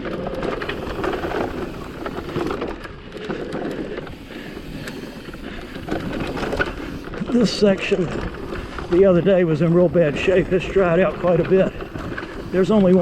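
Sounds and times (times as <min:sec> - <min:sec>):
bike rattling and knocking: 0:00.0 - 0:13.0
bike tyres rolling on dirt: 0:00.0 - 0:13.0.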